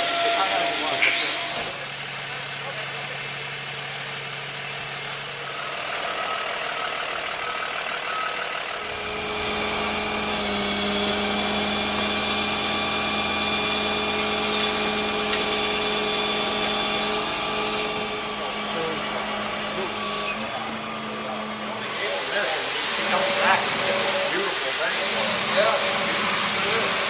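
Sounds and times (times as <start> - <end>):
motor drone: 0.0 - 27.0.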